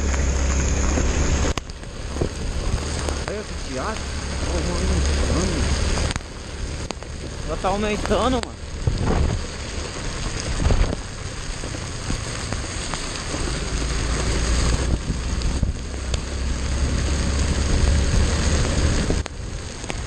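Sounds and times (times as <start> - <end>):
motorcycle engine rumble: 0.0 - 20.0
rain and tyre spray hiss: 0.0 - 20.0.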